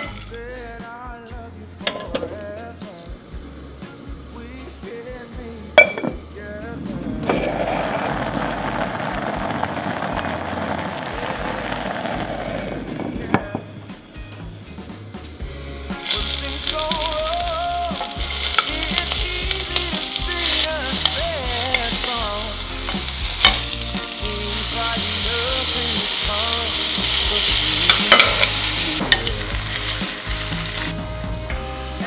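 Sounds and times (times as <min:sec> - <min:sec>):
food sizzling in oil: 0:02.1 - 0:32.0.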